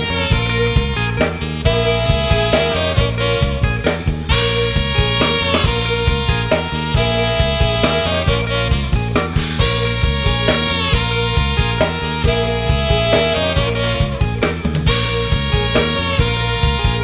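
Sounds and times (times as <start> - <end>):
bass: 0.0 - 17.0
drum kit beat: 0.0 - 17.0
saxophone and brass lines: 0.0 - 17.0.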